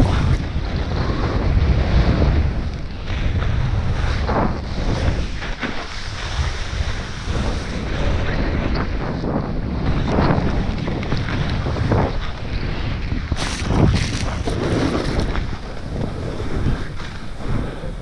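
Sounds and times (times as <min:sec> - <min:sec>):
snowboard rushing through powder: 0:00.0 - 0:18.0
wind buffeting microphone: 0:00.0 - 0:18.0.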